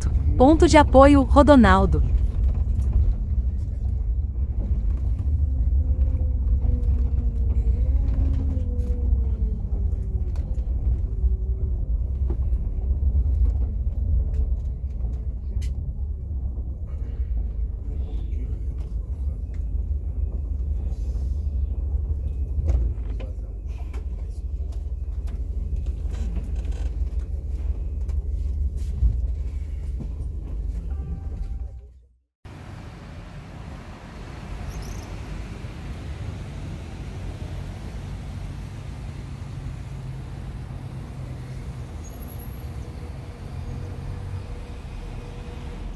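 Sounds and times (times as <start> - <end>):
diesel engine rumbling and whining: 0.0 - 45.9.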